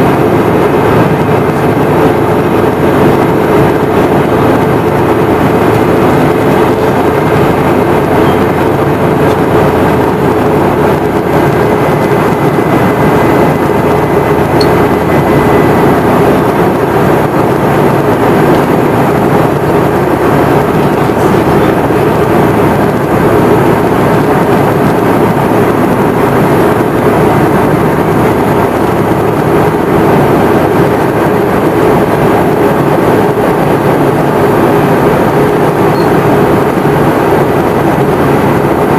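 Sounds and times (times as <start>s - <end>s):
airflow rush: 0.0s - 38.9s
jet engine drone in cabin: 0.0s - 38.9s.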